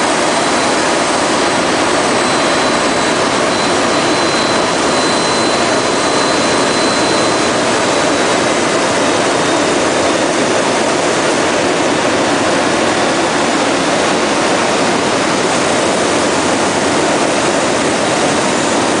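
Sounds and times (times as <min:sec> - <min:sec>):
aircraft engines and rotors: 0:00.0 - 0:19.0.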